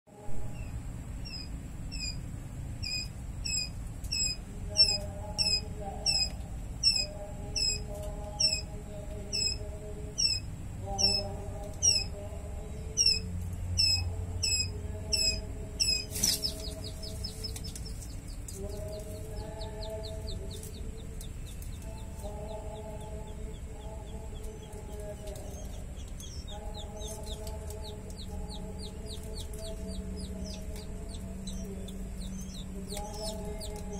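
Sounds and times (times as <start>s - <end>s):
small birds chirping: 0.1s - 33.9s
low drawn-out bird calls: 0.2s - 12.2s, 12.8s - 33.9s.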